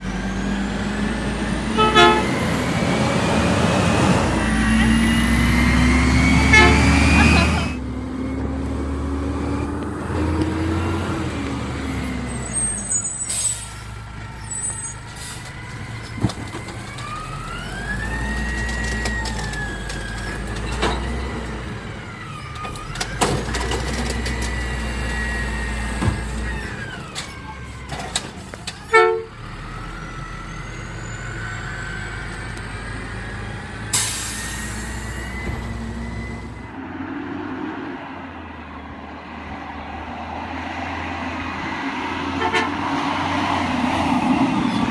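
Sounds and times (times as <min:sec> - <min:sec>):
garbage truck diesel engine revving: 0:00.0 - 0:44.9.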